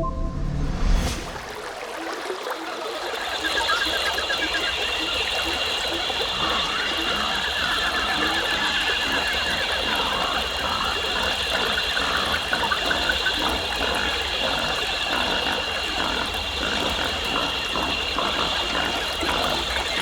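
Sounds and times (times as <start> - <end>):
chirps and animal calls: 3.2 - 20.0.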